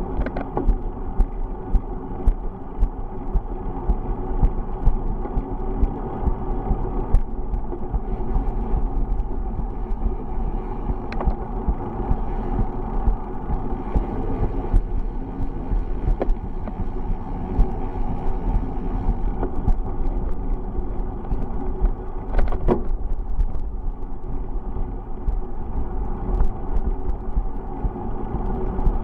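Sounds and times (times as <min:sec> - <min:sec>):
rolling road noise: 0:00.0 - 0:29.0
wind buffeting microphone: 0:00.0 - 0:29.0.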